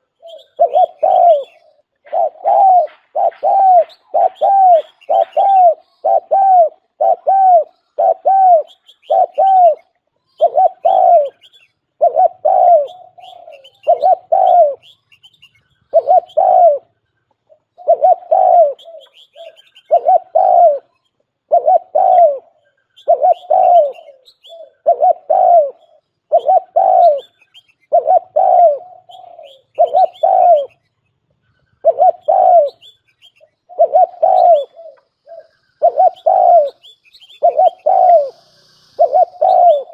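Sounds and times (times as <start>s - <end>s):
dove cooing: 0.0s - 30.8s, 31.6s - 39.9s
small birds chirping: 0.0s - 39.9s.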